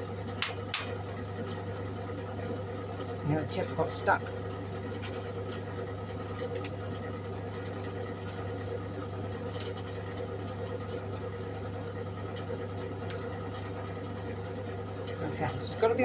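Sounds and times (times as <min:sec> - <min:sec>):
welder electrical hum: 0:00.0 - 0:16.0.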